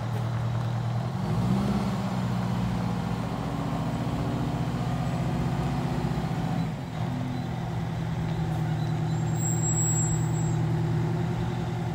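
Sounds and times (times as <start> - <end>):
diesel engine running: 0.0 - 11.9.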